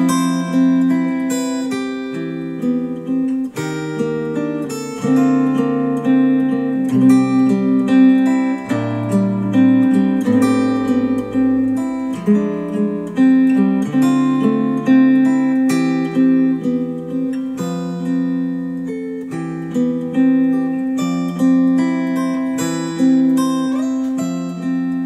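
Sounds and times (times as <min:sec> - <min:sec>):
plucked guitar music over speakers: 0:00.0 - 0:25.0.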